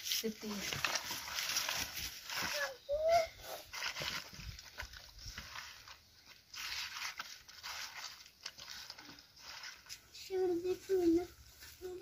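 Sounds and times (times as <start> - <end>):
hand mixing wet food: 0.0 - 12.0.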